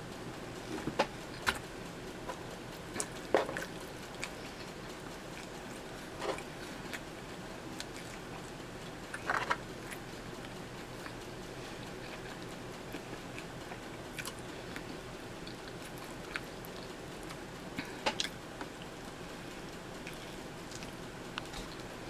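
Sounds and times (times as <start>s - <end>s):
steady hiss: 0.0s - 22.0s
person chewing: 0.6s - 22.0s.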